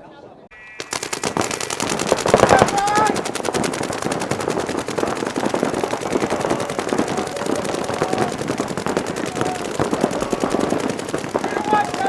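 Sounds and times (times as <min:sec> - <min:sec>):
paintball markers firing: 0:00.8 - 0:12.0.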